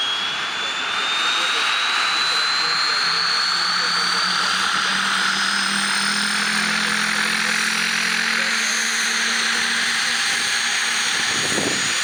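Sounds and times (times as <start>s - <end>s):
helicopter turbine whine: 0.0s - 12.0s
low hum: 0.0s - 12.0s.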